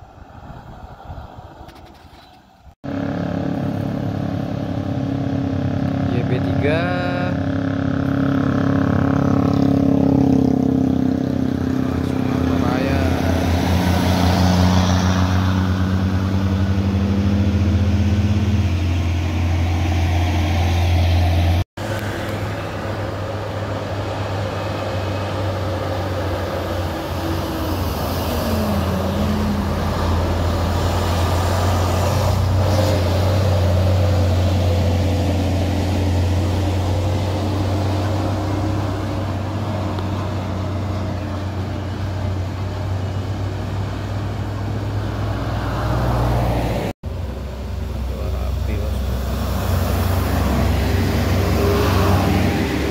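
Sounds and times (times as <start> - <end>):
highway traffic: 0.0 - 52.9.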